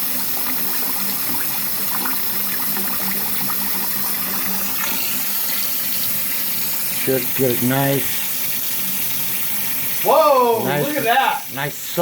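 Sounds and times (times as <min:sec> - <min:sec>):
sink water draining: 0:00.0 - 0:12.0.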